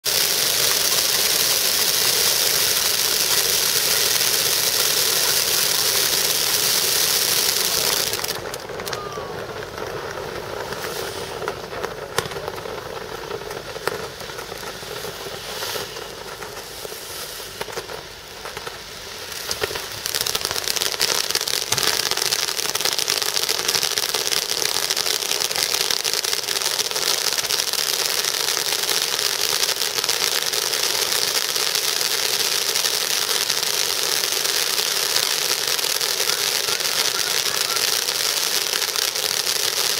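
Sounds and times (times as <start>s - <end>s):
firework fountains hissing: 0.0s - 39.9s.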